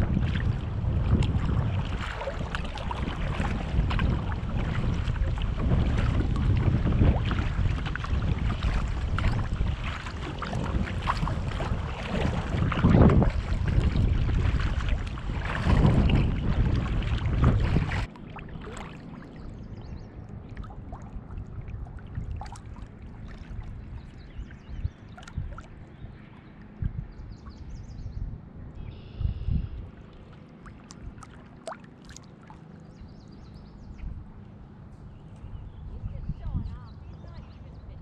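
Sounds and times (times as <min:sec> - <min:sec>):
paddle splashes and drips: 0:00.0 - 0:28.0, 0:28.9 - 0:35.5
wind buffeting microphone: 0:00.0 - 0:31.8, 0:32.7 - 0:38.0
water lapping at plastic hull: 0:00.0 - 0:38.0.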